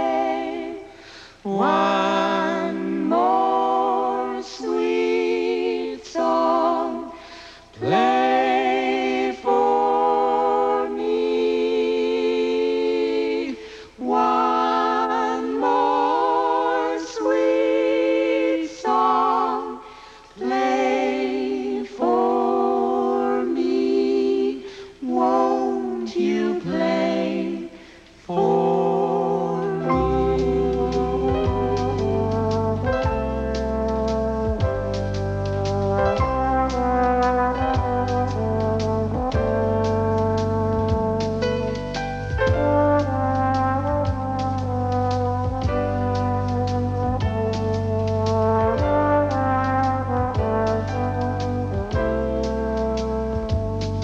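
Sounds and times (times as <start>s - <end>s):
group singing unaccompanied: 0.0s - 52.7s.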